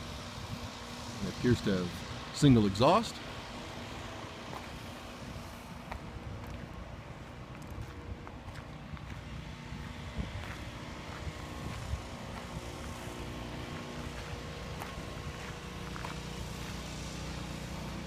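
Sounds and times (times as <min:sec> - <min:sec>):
engine idling hum: 0:00.0 - 0:18.0.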